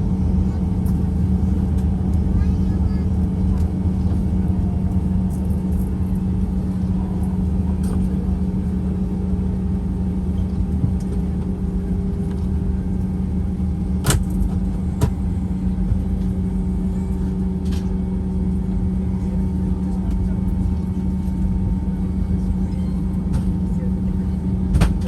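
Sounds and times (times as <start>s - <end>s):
airliner engines rumbling in cabin: 0.0s - 25.0s.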